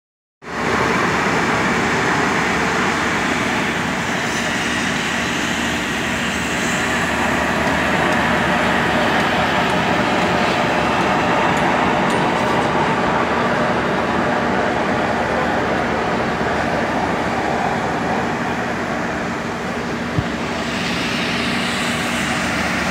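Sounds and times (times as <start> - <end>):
mill machinery rumbling: 0.5 - 22.9.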